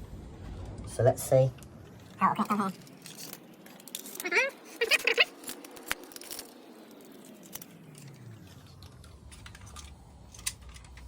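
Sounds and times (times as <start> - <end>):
sharp clicks and metallic rattles: 1.5 - 11.0.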